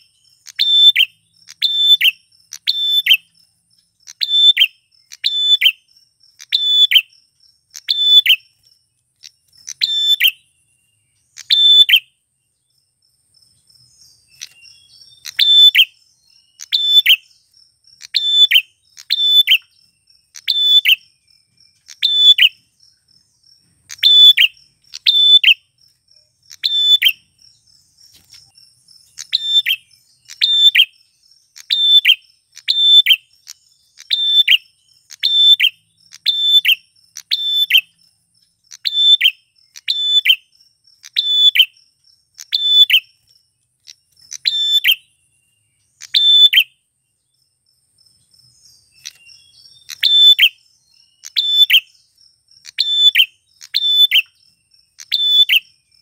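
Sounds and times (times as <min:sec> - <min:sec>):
bird sharp high calls: 0:00.0 - 0:03.4, 0:04.0 - 0:12.2, 0:13.8 - 0:38.0, 0:38.6 - 0:46.9, 0:48.4 - 0:56.0.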